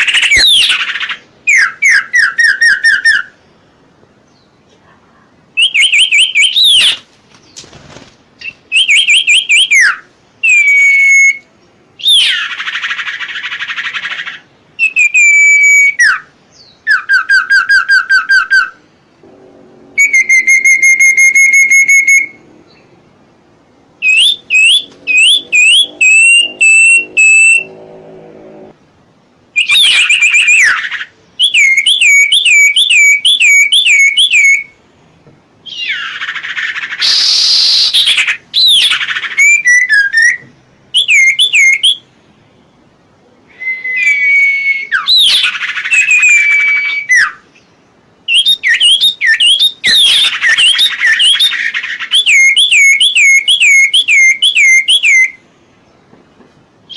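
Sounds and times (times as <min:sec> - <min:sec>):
songbird singing: 0:00.0 - 0:07.8, 0:08.4 - 0:28.8, 0:29.6 - 0:56.2.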